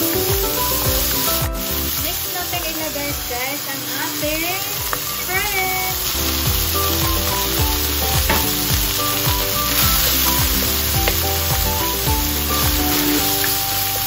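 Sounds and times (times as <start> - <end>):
background music: 0.0 - 14.0
food sizzling in hot oil: 0.0 - 14.0.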